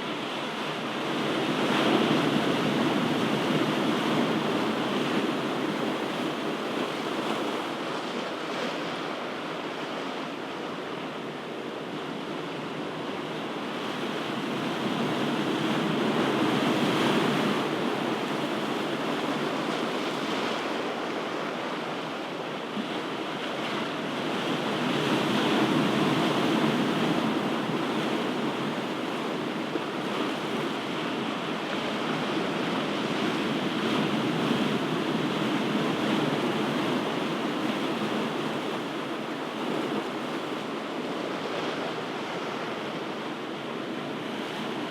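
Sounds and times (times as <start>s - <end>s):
waves washing ashore: 0.0s - 44.9s.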